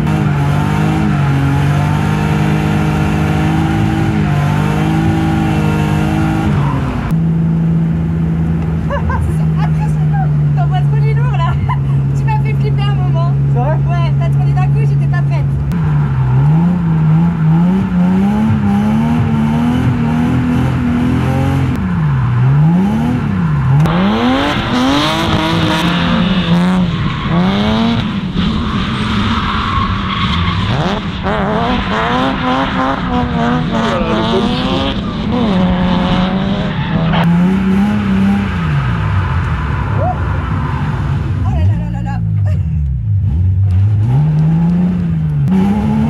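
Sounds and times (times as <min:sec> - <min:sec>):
car engine revving: 0:00.0 - 0:46.0
second car engine: 0:00.0 - 0:46.0.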